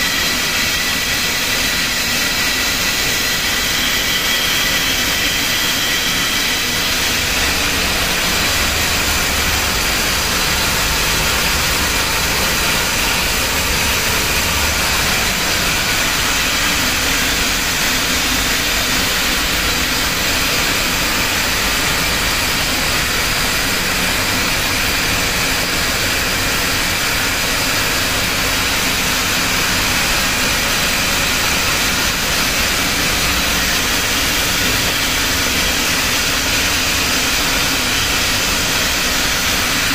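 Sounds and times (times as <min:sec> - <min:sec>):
wire drawing machine running: 0:00.0 - 0:39.9.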